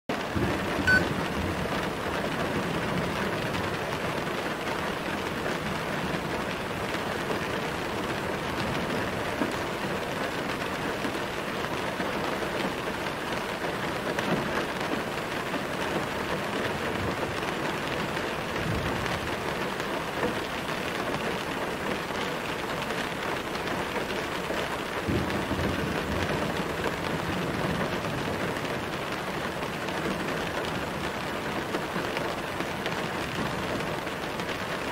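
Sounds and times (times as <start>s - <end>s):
gentle rain falling: 0.1s - 34.9s.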